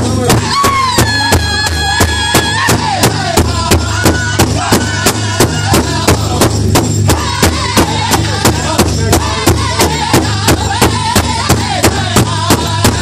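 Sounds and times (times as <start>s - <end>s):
group singing in high voices: 0.0s - 13.0s
large drum beating: 0.0s - 13.0s.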